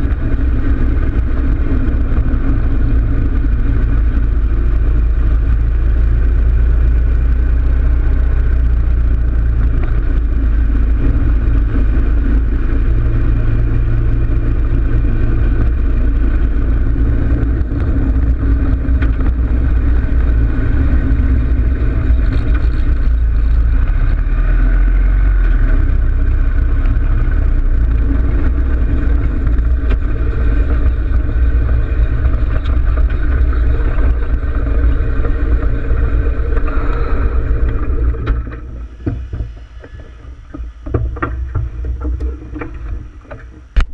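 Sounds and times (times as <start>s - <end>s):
motorcycle engine cruising: 0.0s - 43.9s.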